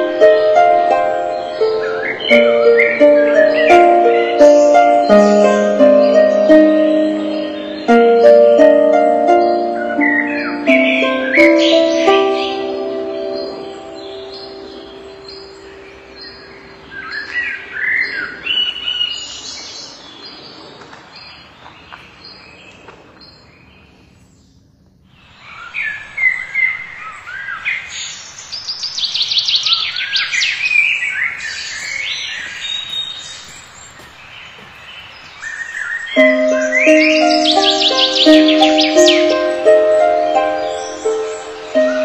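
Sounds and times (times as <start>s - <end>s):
birds chirping and singing: 0.0s - 24.6s, 25.2s - 42.0s.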